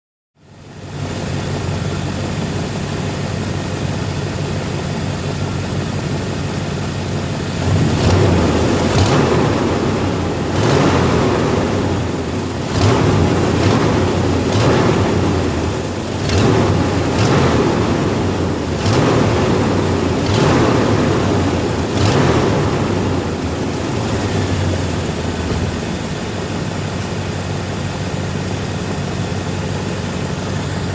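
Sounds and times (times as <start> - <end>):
engine running with exhaust leak: 0.4 - 30.9.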